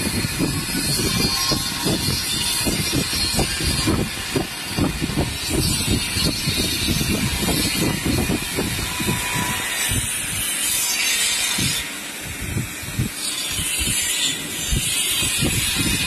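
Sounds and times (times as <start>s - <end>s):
low workshop rumble: 0.0s - 16.0s
welding torch hiss: 0.0s - 16.0s.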